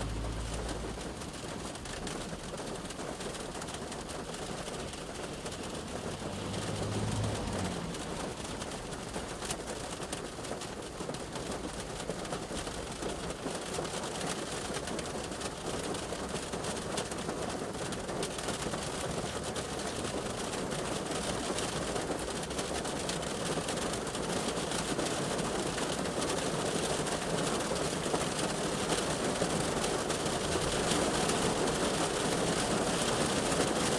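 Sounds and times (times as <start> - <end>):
rain on car roof: 0.0 - 33.9.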